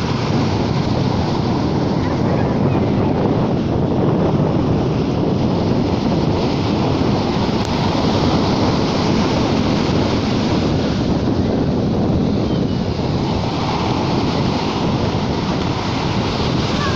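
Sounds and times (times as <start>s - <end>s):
sea waves washing on shore: 0.0s - 16.9s
wind buffeting microphone: 0.0s - 16.9s.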